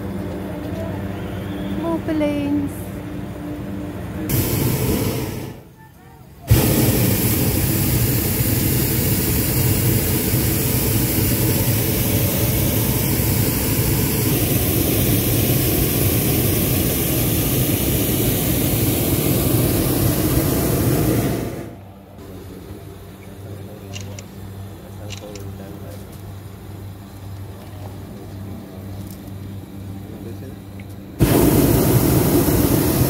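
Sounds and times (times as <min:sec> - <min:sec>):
propane burner roaring: 0:00.0 - 0:05.8, 0:06.4 - 0:33.0.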